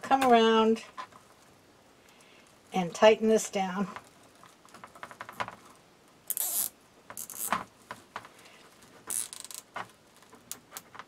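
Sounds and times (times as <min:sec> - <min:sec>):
plastic mesh crinkling: 0:00.4 - 0:11.0.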